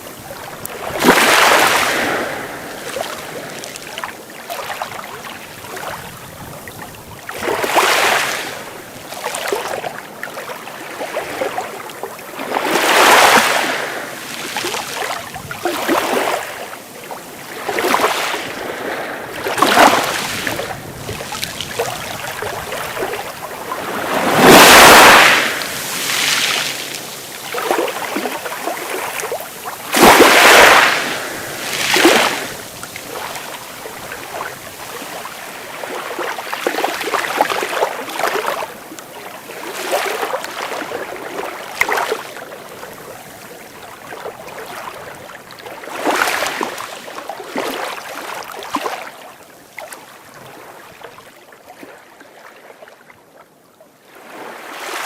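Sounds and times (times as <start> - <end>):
sea waves breaking on beach: 0.0 - 53.0, 54.0 - 55.0.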